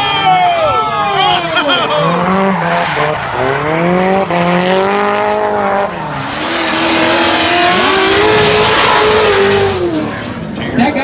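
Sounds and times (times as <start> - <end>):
car engine at high revs: 1.4 - 10.9.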